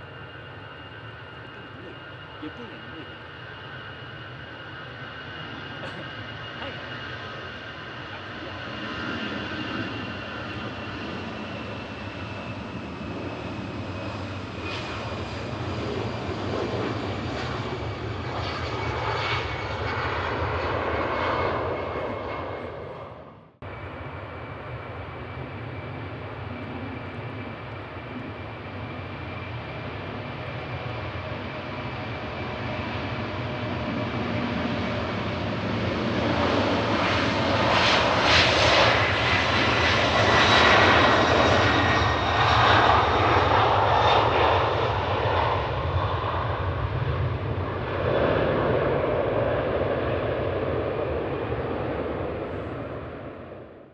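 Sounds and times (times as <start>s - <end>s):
jet airliner engines passing: 0.0s - 53.9s.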